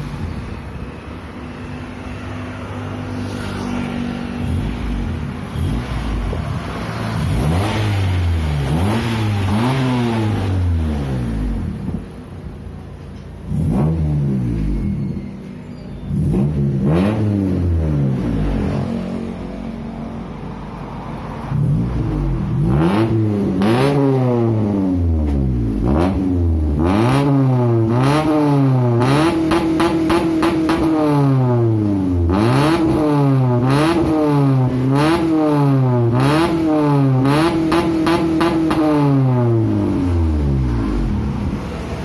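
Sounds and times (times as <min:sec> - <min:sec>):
car engine revving: 0:02.1 - 0:12.1, 0:13.4 - 0:15.2, 0:16.1 - 0:42.0.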